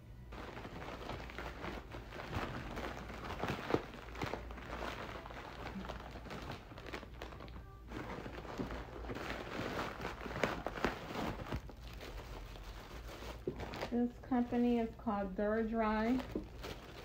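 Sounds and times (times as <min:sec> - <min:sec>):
packaging rustling and crinkling: 0:00.3 - 0:17.0.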